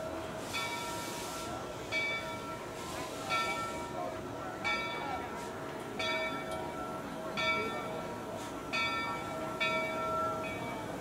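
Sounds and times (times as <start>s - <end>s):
locomotive bell ringing: 0.0s - 11.0s.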